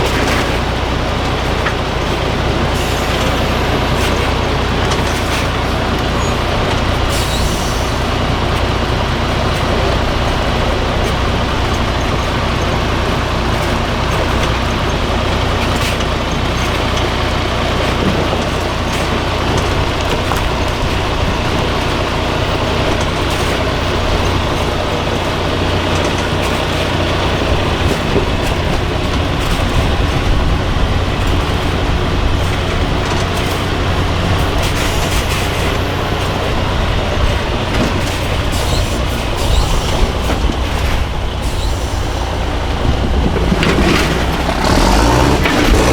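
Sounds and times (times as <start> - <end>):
diesel truck engine droning: 0.0 - 45.9.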